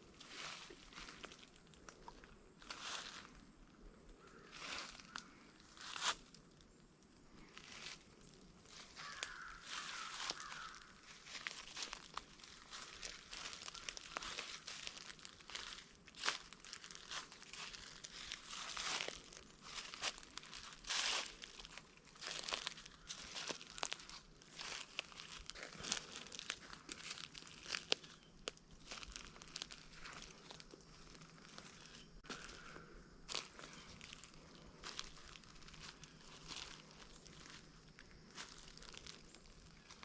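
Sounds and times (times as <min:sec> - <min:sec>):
footsteps crunching dry leaves: 0:00.0 - 0:03.5, 0:04.2 - 0:06.4, 0:07.4 - 0:40.0.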